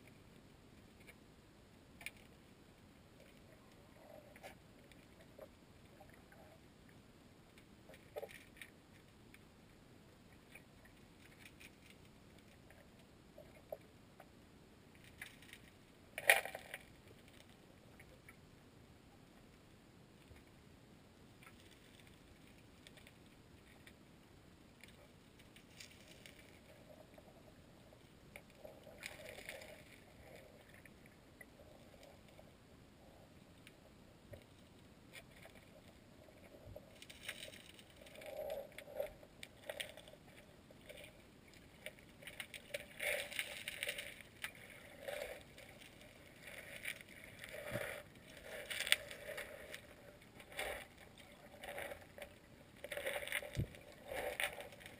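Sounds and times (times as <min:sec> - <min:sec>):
muffled creek water gurgling: 0:00.0 - 0:54.9.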